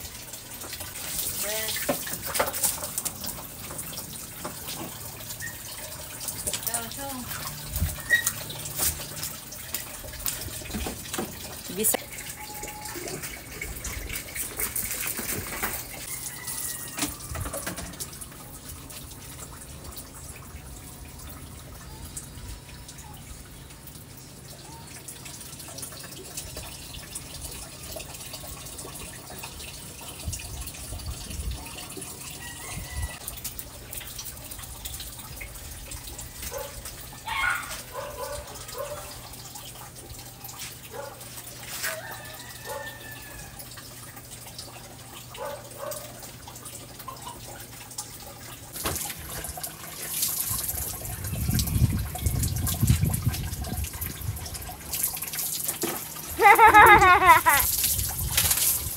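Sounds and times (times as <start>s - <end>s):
tap water running and splashing: 0.0s - 58.9s.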